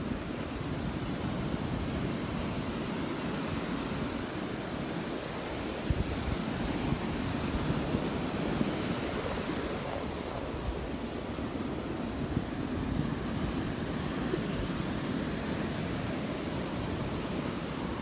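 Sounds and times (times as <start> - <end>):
surf washing onto beach: 0.0 - 18.0
wind rumbling on microphone: 0.0 - 18.0.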